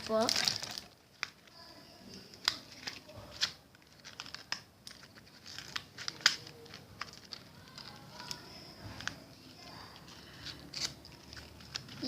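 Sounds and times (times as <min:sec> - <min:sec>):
wrapping paper tearing and crinkling: 0:00.0 - 0:12.0.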